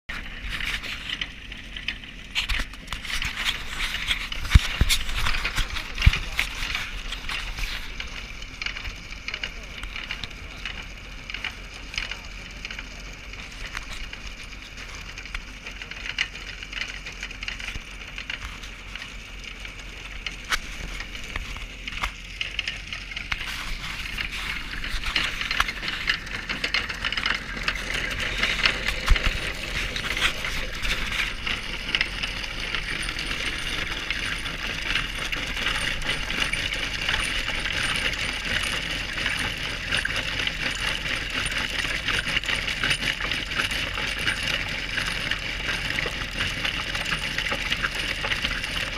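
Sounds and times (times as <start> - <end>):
engine humming: 0.1 - 48.9
milling cutter rattling on asphalt: 0.1 - 48.9.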